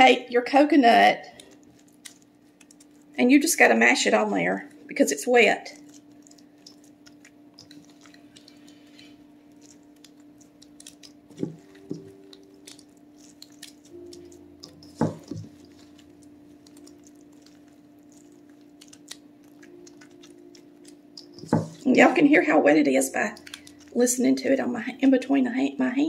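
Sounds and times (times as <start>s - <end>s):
faint steady hum: 0.0s - 26.0s
wet squishing of coconut: 1.1s - 25.0s.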